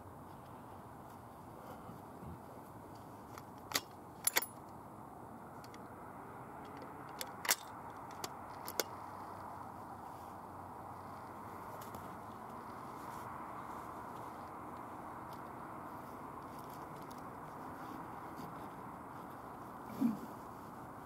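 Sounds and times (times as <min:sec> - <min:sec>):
low outdoor hiss: 0:00.0 - 0:21.0.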